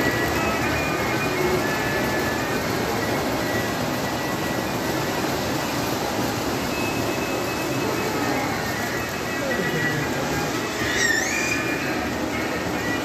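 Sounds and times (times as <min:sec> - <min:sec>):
model train running: 0:00.0 - 0:13.0.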